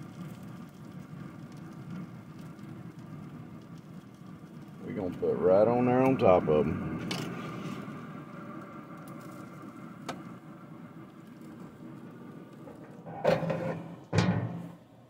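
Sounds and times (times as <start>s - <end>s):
pellet grill humming: 0.0s - 15.0s.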